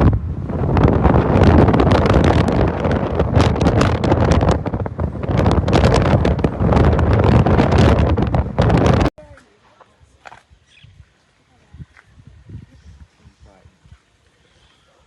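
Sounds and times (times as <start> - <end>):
wind buffeting microphone: 0.0 - 9.1, 10.5 - 14.2.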